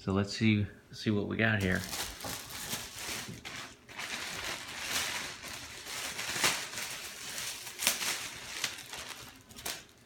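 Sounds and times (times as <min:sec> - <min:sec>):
plastic bag crinkling: 0:01.6 - 0:10.0.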